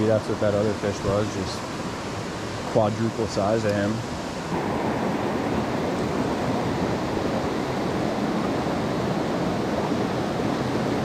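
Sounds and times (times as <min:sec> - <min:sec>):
creek water rushing over stones: 0:00.0 - 0:11.0.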